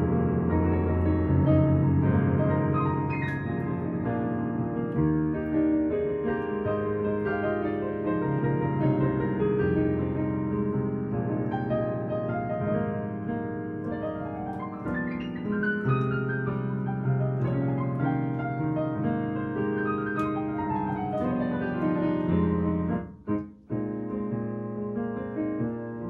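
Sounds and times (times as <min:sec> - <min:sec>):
jazz piano playing: 0:00.0 - 0:26.0.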